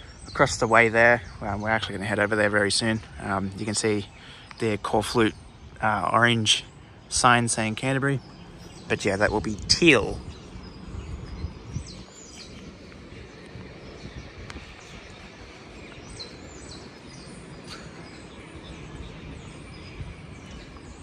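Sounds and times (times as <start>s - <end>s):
outdoor background noise: 0.0s - 21.0s
high bird chirps: 2.7s - 21.0s.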